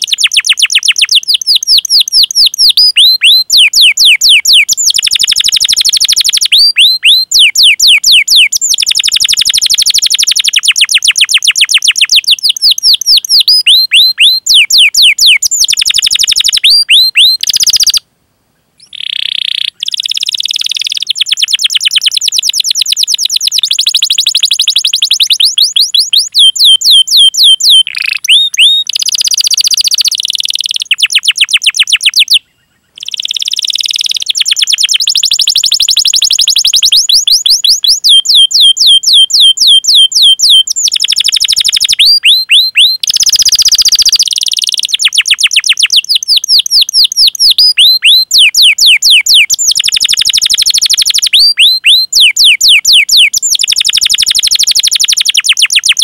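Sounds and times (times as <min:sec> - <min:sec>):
canary singing high chirps: 0:00.0 - 0:18.0, 0:18.8 - 0:56.0.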